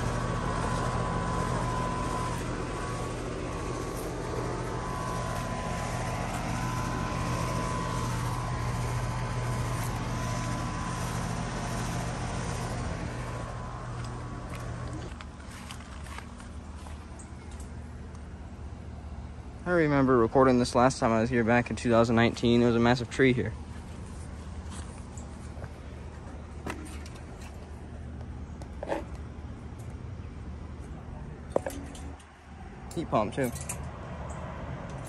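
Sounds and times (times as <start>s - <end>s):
compressor hum: 0.0s - 35.0s
condenser fan rushing: 0.0s - 35.0s.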